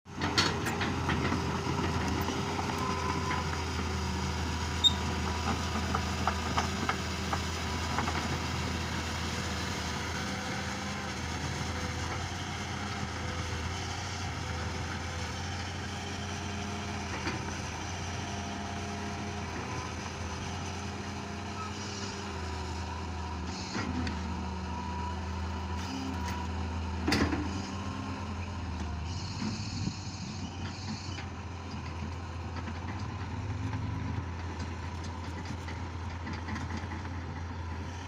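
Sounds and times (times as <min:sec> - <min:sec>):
excavator engine running: 0:00.1 - 0:38.0.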